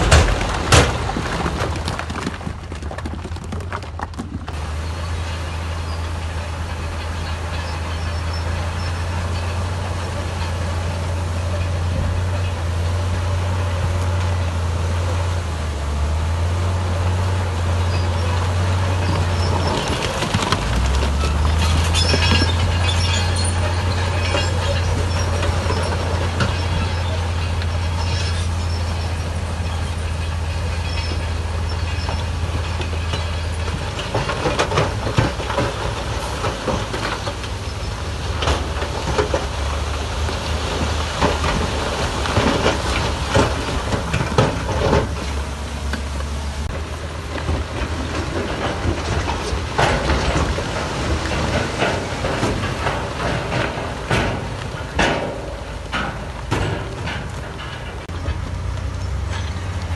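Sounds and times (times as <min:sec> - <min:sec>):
diesel earthmoving machinery droning: 0:00.0 - 0:59.9
metal and rock clanking: 0:00.0 - 0:59.9.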